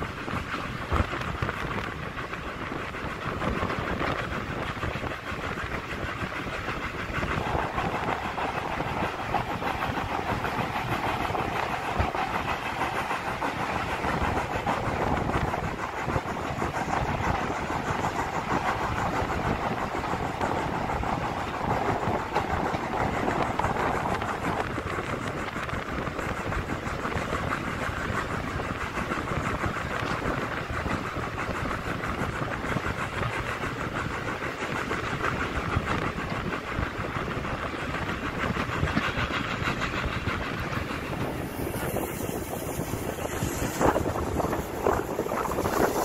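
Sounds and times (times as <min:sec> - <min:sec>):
rushing air: 0:00.0 - 0:46.0
wheel and rail noise: 0:00.0 - 0:46.0.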